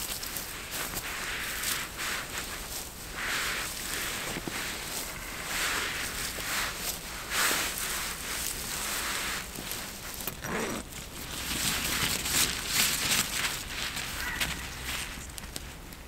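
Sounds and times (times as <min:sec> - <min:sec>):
footsteps in leaf litter: 0:00.0 - 0:16.0.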